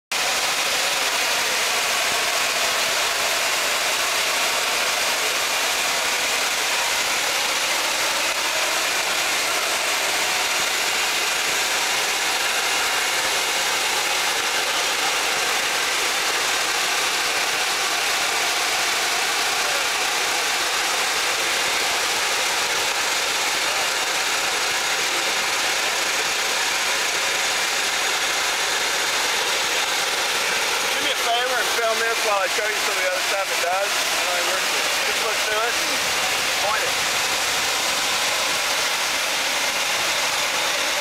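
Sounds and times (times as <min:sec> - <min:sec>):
water jet rushing hiss: 0:00.1 - 0:41.0.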